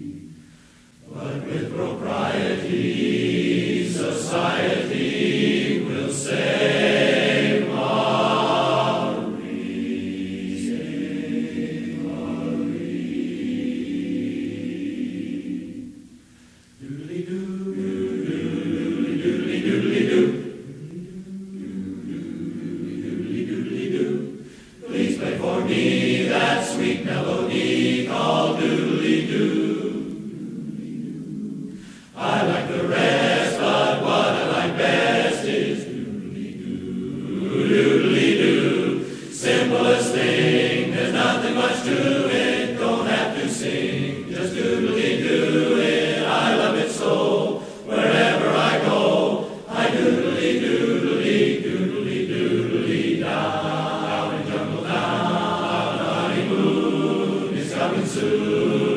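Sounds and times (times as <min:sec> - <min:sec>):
men's chorus singing a cappella: 0:01.0 - 0:16.1, 0:16.8 - 0:58.9.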